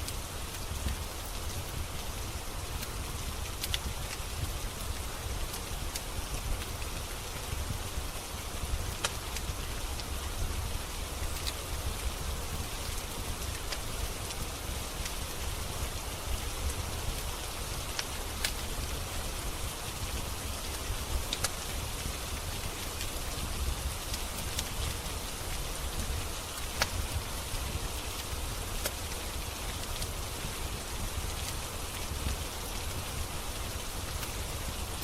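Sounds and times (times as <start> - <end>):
steady rain hiss: 0.0 - 35.0
wood fire crackling: 0.0 - 35.0.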